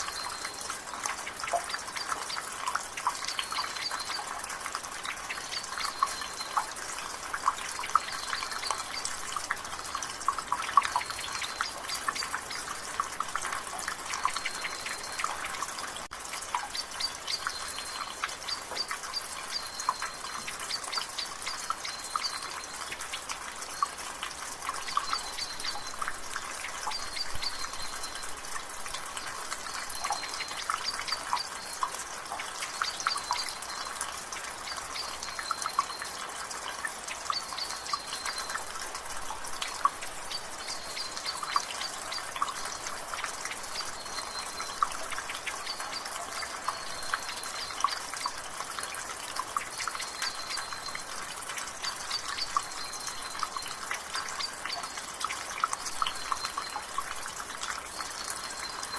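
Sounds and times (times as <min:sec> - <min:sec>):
water dripping from gutter: 0:00.0 - 0:58.9.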